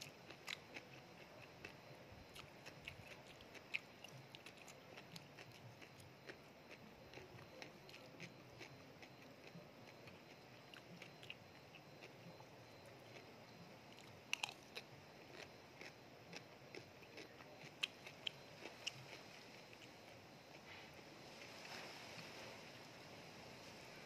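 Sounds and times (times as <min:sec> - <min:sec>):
person chewing: 0:00.0 - 0:21.0.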